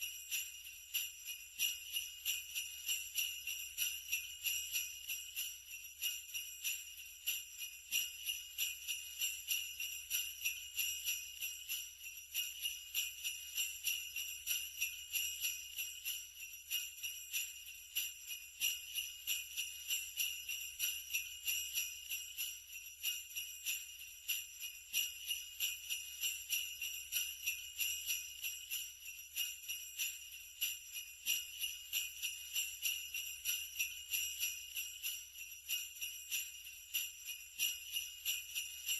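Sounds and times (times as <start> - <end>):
sleigh bells jingling: 0.0 - 38.9.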